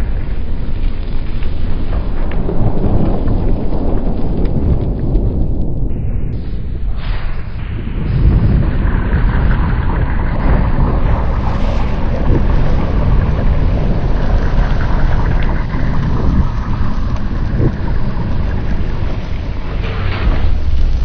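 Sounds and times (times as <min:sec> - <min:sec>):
low rumble of weapon backblast: 0:02.1 - 0:21.0.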